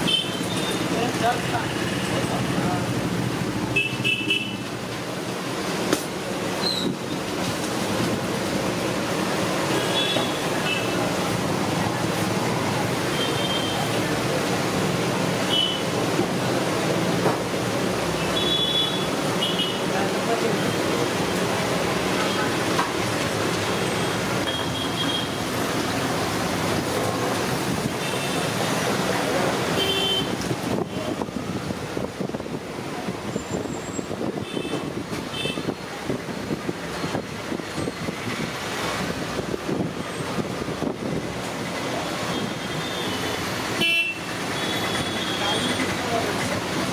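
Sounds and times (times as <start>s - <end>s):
street traffic noise: 0.0s - 46.9s.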